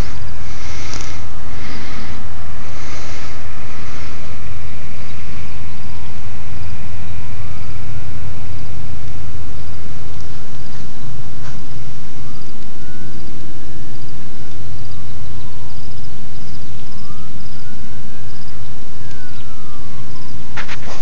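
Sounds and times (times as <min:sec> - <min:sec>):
faint wailing siren: 0:00.0 - 0:21.0
loud steady rumbling: 0:00.0 - 0:21.0.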